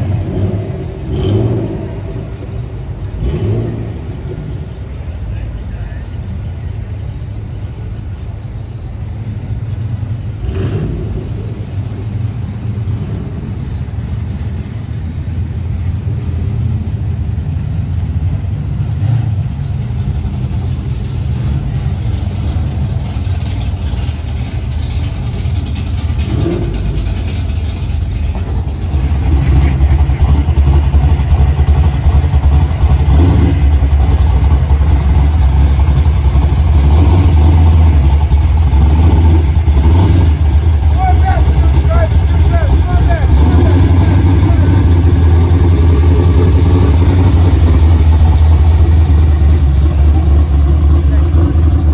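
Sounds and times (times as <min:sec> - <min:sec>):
vehicle engine rumble: 0:00.0 - 0:51.9.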